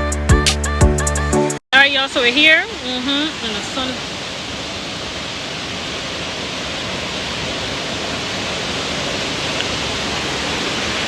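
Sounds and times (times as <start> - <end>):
waterfall rushing: 1.8 - 11.0.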